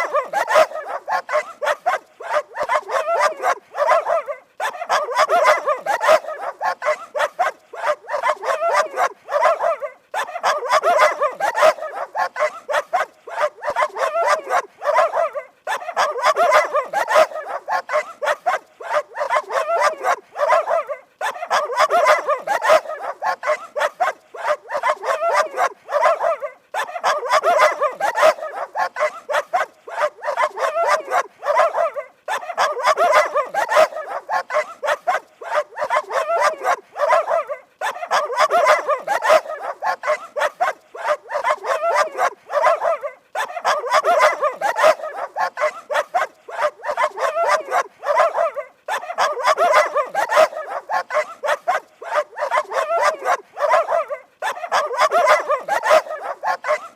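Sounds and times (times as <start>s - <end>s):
dogs barking rapidly: 0.0s - 56.9s.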